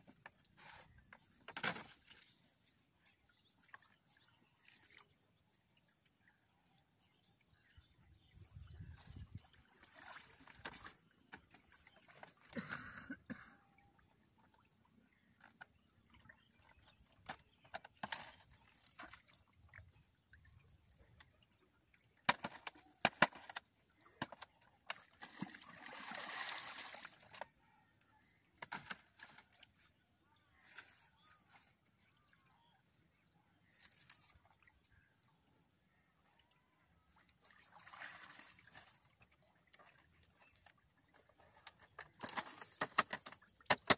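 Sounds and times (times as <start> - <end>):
water dripping and splashing: 0.0 - 12.6, 13.8 - 43.9.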